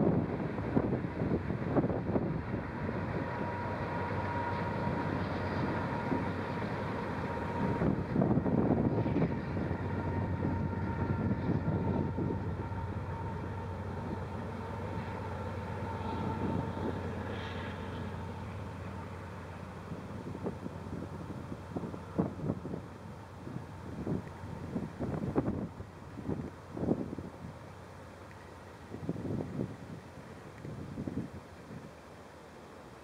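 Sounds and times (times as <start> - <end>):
train wheels rumbling on rails: 0.0 - 27.3
wind buffeting microphone: 0.0 - 27.7, 28.8 - 32.0.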